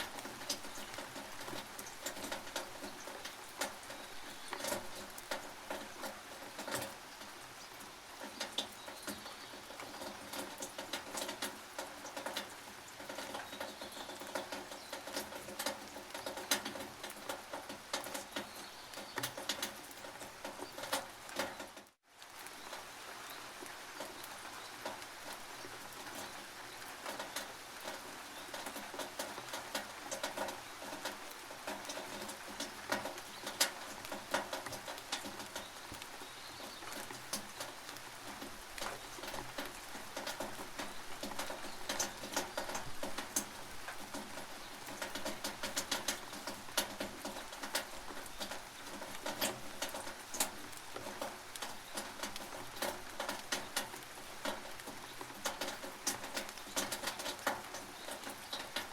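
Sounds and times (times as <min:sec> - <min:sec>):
rain drops on a tin roof: 0:00.0 - 0:58.9
rain hiss: 0:00.0 - 0:58.9.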